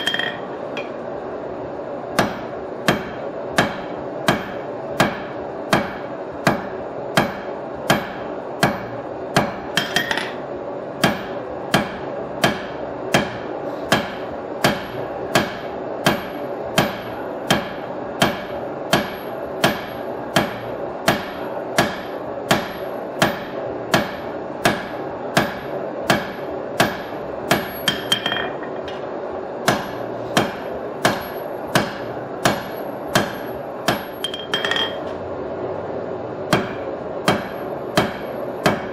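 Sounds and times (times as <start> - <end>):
hammer striking steel on anvil: 0.0 - 1.0, 2.2 - 10.4, 11.0 - 35.1, 36.5 - 38.9.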